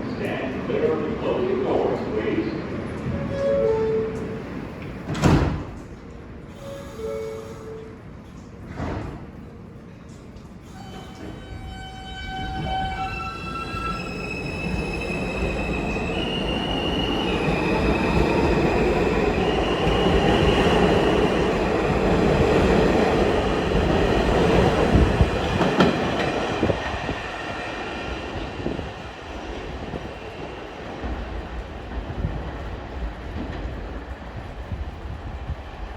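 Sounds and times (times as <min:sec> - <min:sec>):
subway train propulsion whine: 0:00.0 - 0:35.9.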